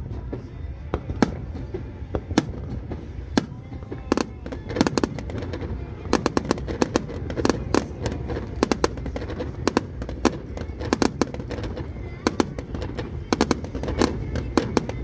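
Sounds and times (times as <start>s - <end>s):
fireworks cracking: 0.0s - 15.0s.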